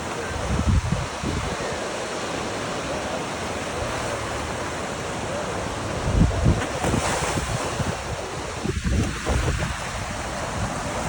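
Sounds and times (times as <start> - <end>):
ocean surf washing: 0.0 - 11.0
wind buffeting microphone: 0.0 - 11.0.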